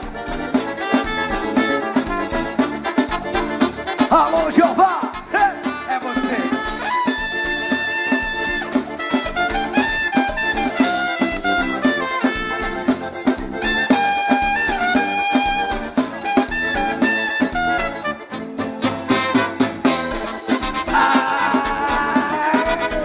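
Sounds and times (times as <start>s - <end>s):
percussion beat: 0.0s - 18.1s, 19.0s - 23.0s
horn section melody: 0.7s - 23.0s.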